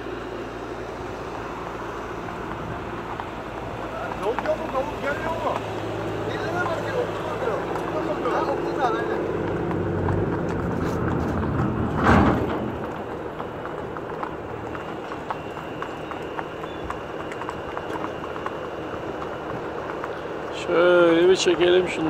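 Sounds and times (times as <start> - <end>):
horse hooves on sand: 0.0 - 22.0.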